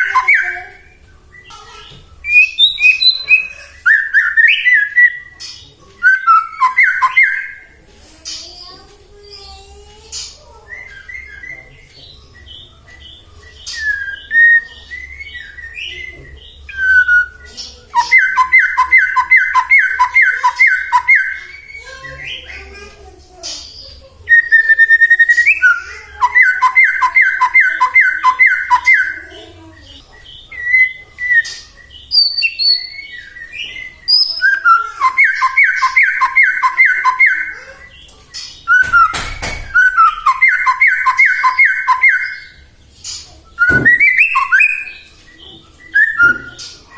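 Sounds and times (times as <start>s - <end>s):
bird singing whistled notes: 0.0s - 5.4s, 6.0s - 7.6s, 10.6s - 22.4s, 24.3s - 29.3s, 30.2s - 37.6s, 38.7s - 42.7s, 43.5s - 46.9s.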